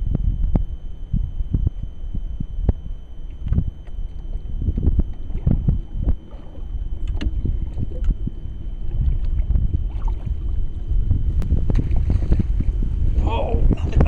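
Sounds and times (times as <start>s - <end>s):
faint high whine: 0.0s - 14.0s
wind buffeting microphone: 0.0s - 14.0s.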